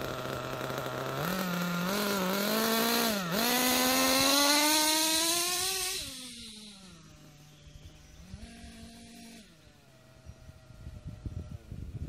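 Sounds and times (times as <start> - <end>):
nitro engine accelerating: 0.0 - 12.0.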